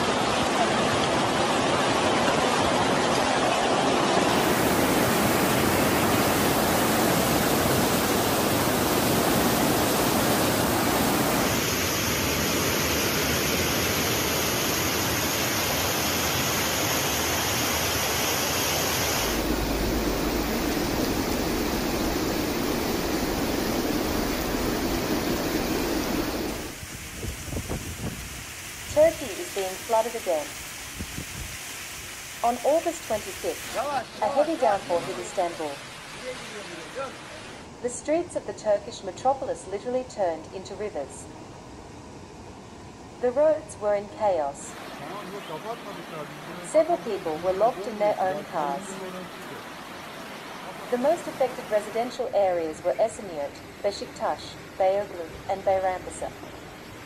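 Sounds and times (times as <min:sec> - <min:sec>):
floodwater rushing: 0:00.0 - 0:37.8, 0:44.7 - 0:53.8.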